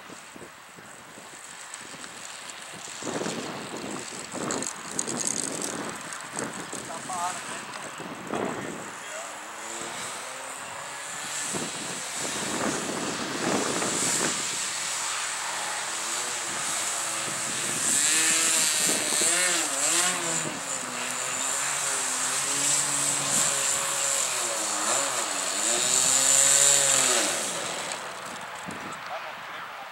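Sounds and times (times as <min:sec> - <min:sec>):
model airplane engine running: 0:00.9 - 0:29.5.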